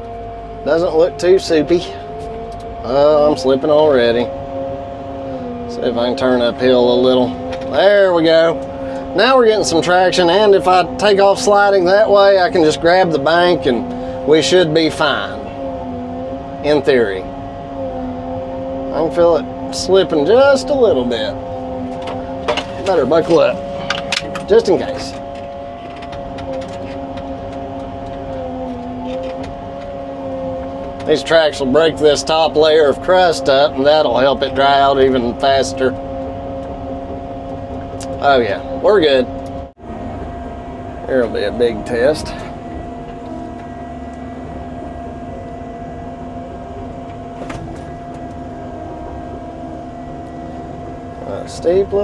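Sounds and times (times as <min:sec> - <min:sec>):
constant whine: 0:00.0 - 0:52.0
tracked machine engine droning: 0:00.0 - 0:52.0.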